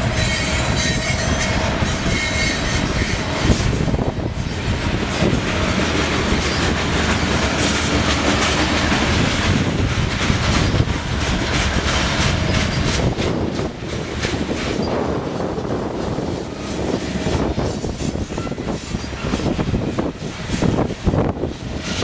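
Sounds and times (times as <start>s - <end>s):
train wheels rumbling on rail: 0.0s - 22.0s
wheels clicking over rail joints: 0.0s - 22.0s.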